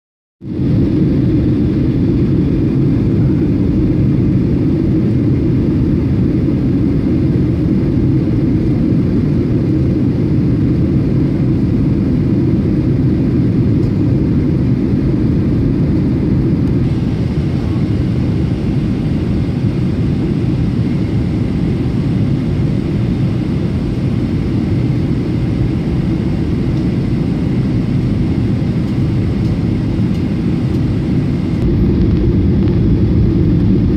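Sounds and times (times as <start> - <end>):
jet engines rumbling in cabin: 0.4 - 33.9.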